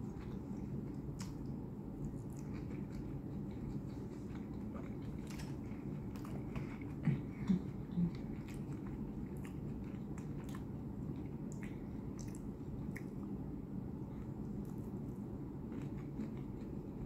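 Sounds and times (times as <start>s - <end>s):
low background noise: 0.0s - 17.0s
person chewing: 0.1s - 13.3s, 14.2s - 17.0s.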